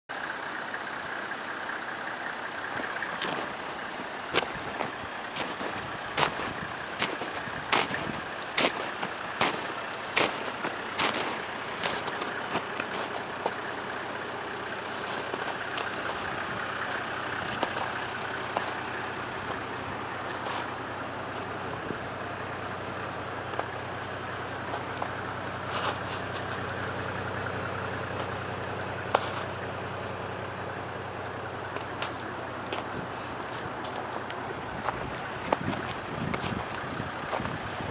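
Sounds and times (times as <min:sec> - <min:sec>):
car engine idling: 0:00.1 - 0:37.9.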